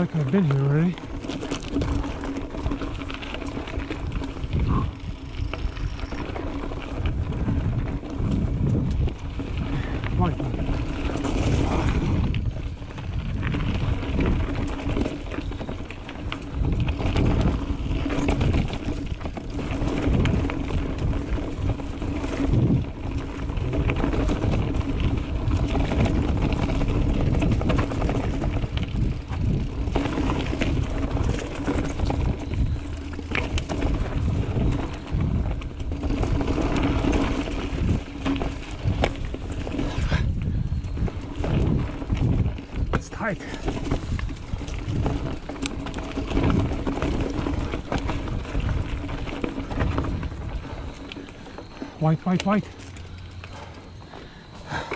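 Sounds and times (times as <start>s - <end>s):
bike rattles and clicks: 0.0s - 54.9s
wind and tyre rumble: 0.0s - 54.9s.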